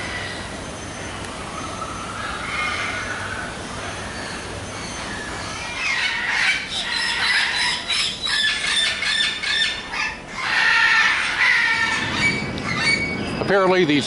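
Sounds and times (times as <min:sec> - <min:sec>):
cockatiels screeching: 0:01.7 - 0:13.7.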